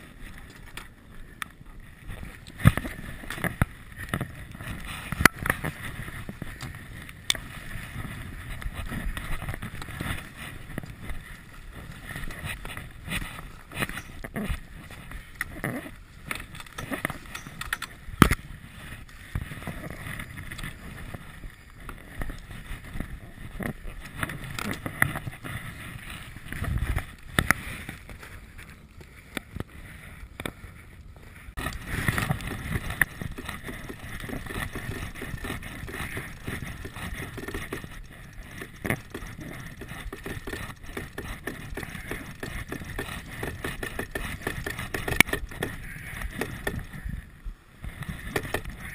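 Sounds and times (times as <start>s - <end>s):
wind: 0.0s - 48.9s.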